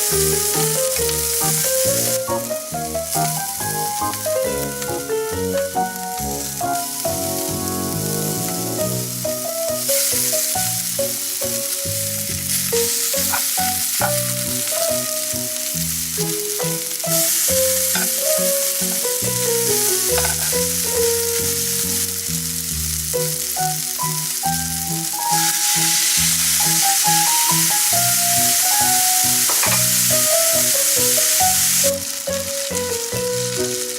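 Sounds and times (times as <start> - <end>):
background music: 0.0 - 33.9
food sizzling in a pan: 0.0 - 33.9.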